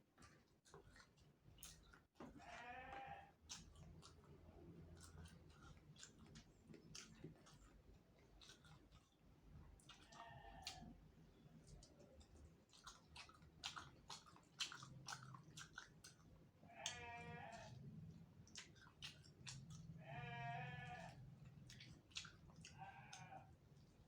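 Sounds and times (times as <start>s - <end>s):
chewing and crunching: 0.0s - 24.0s.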